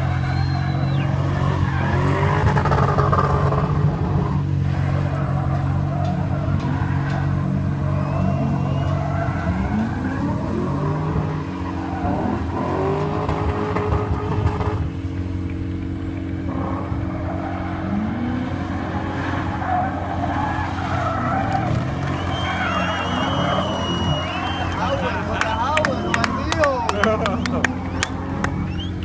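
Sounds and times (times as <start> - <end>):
car engine revving hard: 0.0 - 15.0, 16.4 - 29.0
tyres skidding: 0.0 - 29.0.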